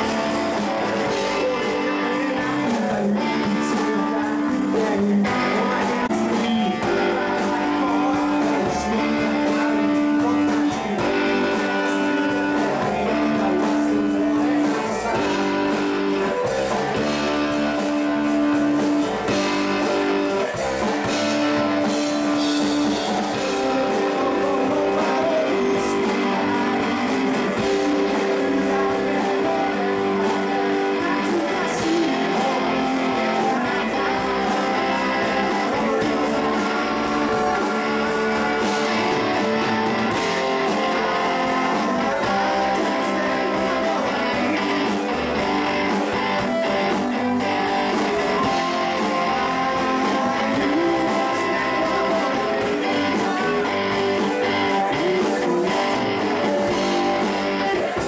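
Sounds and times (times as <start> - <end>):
man singing: 0.0 - 58.0
rock band playing live: 0.0 - 58.0.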